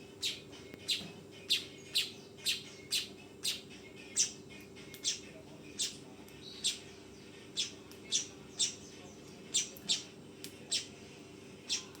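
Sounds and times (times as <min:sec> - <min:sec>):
weaver bird chirping: 0:00.2 - 0:04.4, 0:05.0 - 0:10.1, 0:10.7 - 0:11.0, 0:11.6 - 0:12.0.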